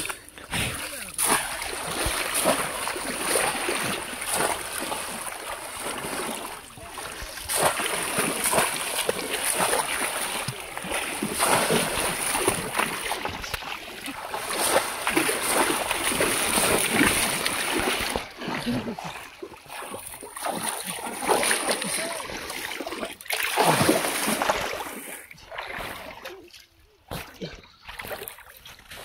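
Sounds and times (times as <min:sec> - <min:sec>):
water splashing: 0:00.0 - 0:29.0.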